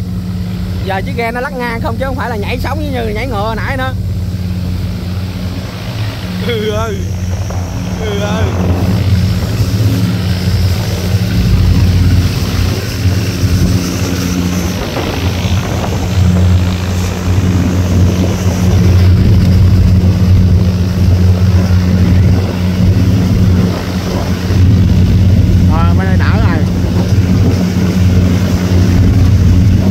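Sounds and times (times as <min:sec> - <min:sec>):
boat engine running: 0:00.0 - 0:29.9
wind and water rushing: 0:00.0 - 0:29.9.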